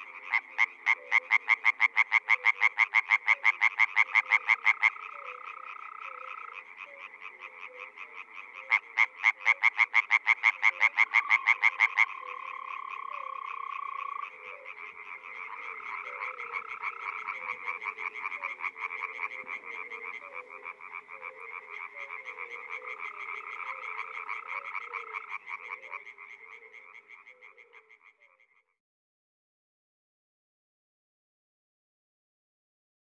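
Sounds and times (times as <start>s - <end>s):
tree frogs croaking: 0.0s - 28.8s.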